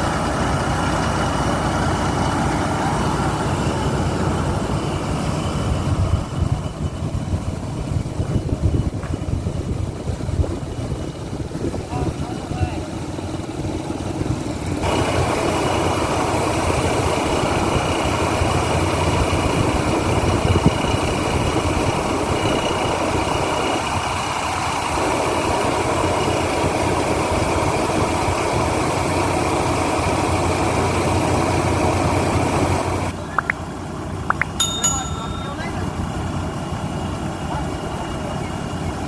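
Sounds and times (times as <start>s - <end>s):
combine harvester running: 0.0s - 39.0s.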